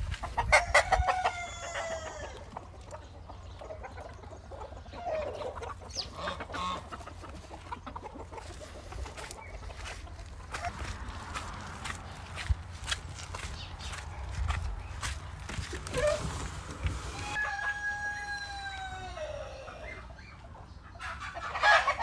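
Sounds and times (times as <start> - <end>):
chickens clucking and calling: 0.0 - 22.0.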